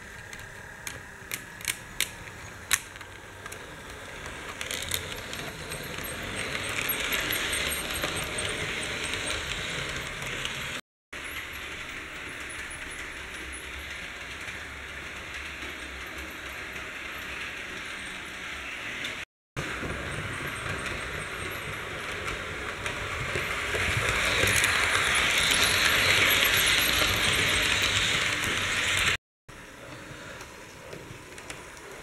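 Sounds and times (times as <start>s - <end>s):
model train wheels rattling: 0.0s - 18.7s, 20.0s - 29.2s.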